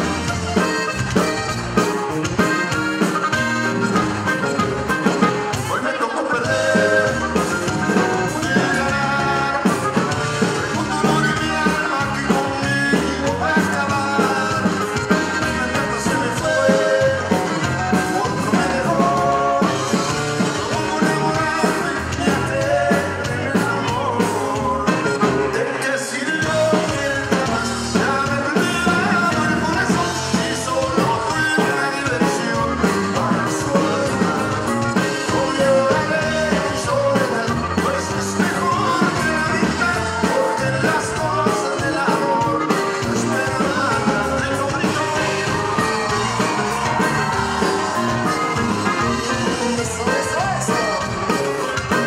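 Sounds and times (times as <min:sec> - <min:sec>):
button accordion: 0:00.0 - 0:52.0
congas: 0:00.0 - 0:52.0
drums: 0:00.0 - 0:52.0
electric bass: 0:00.0 - 0:52.0
guitars: 0:00.0 - 0:52.0.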